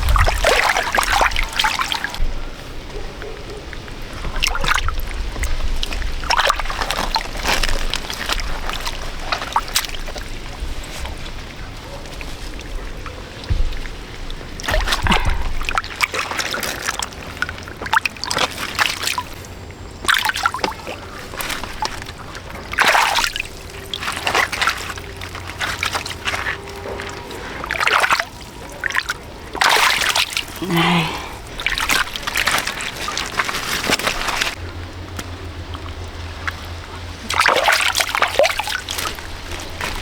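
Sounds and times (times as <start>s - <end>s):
low steady hum: 0.0s - 40.0s
water splashing and sloshing: 0.0s - 40.0s.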